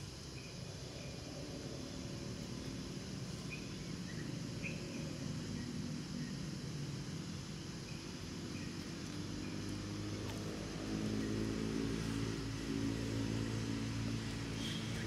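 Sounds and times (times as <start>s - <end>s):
motor engine drone: 0.4s - 15.0s.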